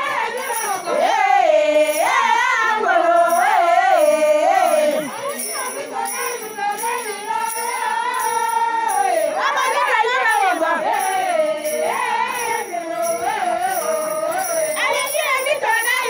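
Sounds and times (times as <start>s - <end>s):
steady high jingling: 0.0s - 16.0s
women singing together: 0.0s - 16.0s.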